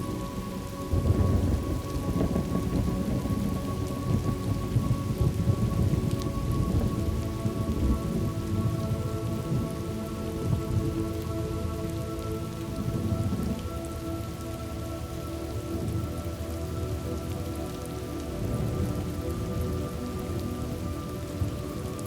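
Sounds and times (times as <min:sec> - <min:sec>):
rolling thunder rumble: 0:00.0 - 0:22.0
steady rain falling: 0:00.0 - 0:22.0.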